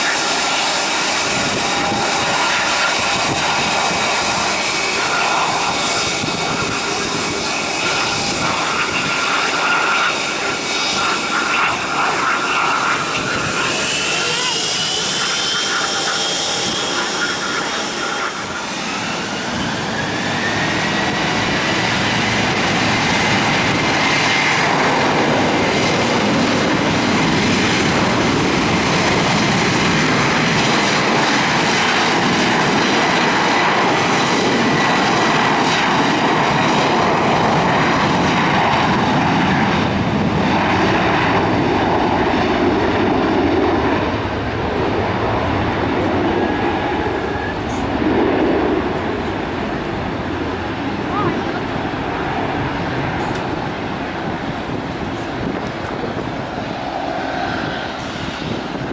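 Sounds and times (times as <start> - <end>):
high engine whine: 0.0 - 58.9
jet engines roaring: 0.0 - 58.9.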